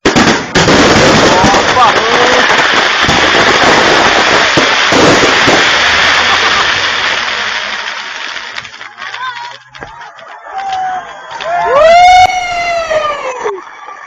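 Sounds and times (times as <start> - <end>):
fireworks crackling: 0.0 - 13.9.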